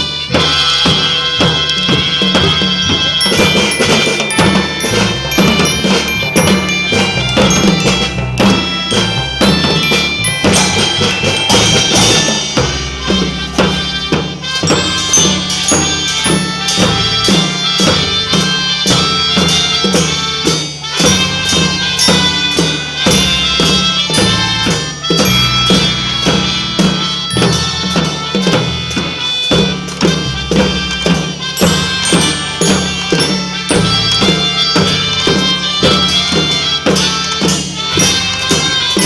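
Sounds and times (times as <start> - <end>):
children's marching band playing: 0.0 - 39.0.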